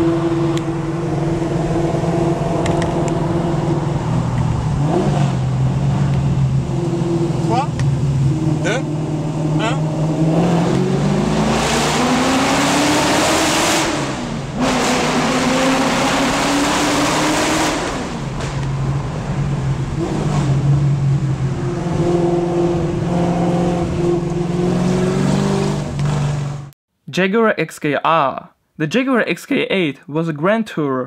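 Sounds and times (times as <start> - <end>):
car engine accelerating through gears: 0.0 - 26.7.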